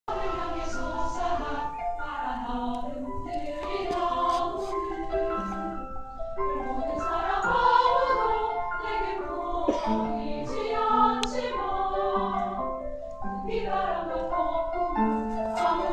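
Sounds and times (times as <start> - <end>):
women's choir singing: 0.1 - 15.9.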